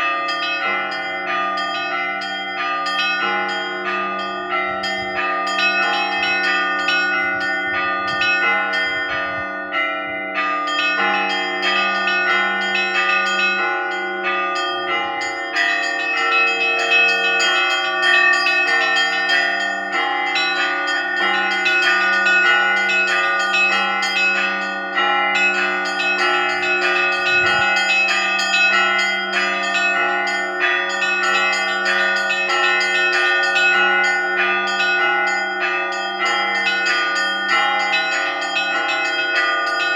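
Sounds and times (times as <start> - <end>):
church bells ringing: 0.0 - 39.9
sustained hum of large bells: 0.0 - 39.9.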